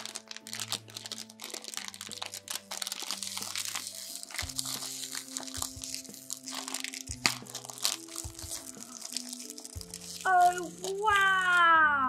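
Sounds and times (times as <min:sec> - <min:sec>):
packet crinkling as unwrapped: 0:00.0 - 0:11.7.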